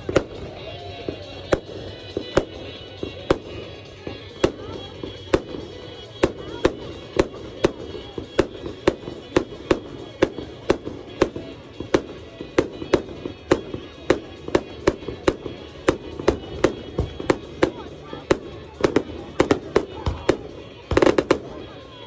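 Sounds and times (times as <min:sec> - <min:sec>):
firework bangs: 0:00.0 - 0:22.0
music: 0:00.0 - 0:22.0.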